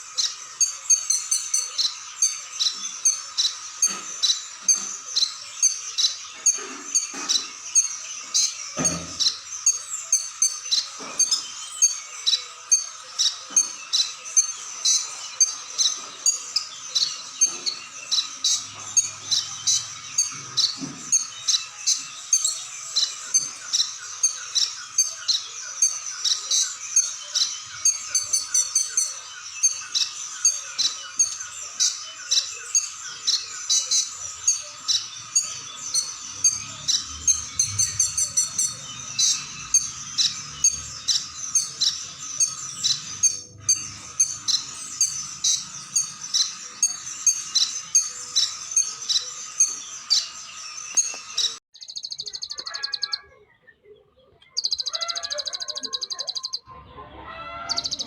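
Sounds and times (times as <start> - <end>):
bird chirping and trilling: 0.0 - 58.0.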